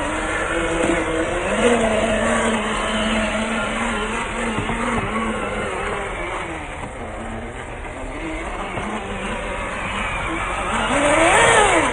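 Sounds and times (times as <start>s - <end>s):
electric motor whine: 0.0s - 11.9s
steady noisy background: 0.0s - 11.9s.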